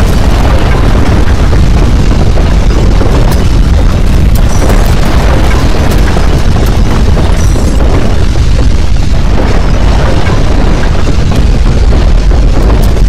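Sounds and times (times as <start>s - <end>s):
deep rumble of earthquake: 0.0s - 13.0s
scattered crackles: 0.0s - 13.0s.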